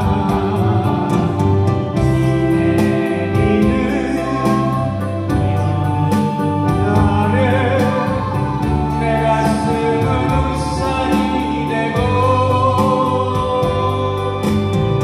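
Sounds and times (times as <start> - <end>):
man singing into microphone: 0.0 - 1.4, 2.0 - 15.0
instrumental music with beat: 0.0 - 15.0.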